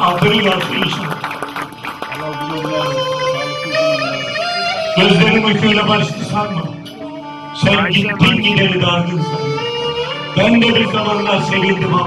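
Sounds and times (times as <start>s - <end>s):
slow instrumental music: 0.9s - 12.0s.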